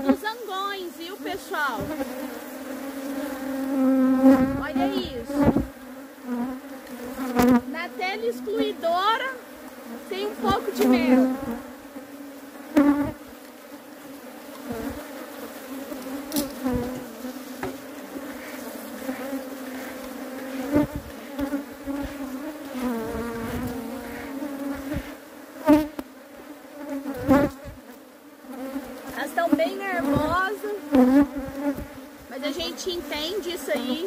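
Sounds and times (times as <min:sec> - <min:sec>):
bees buzzing: 0:00.0 - 0:34.0.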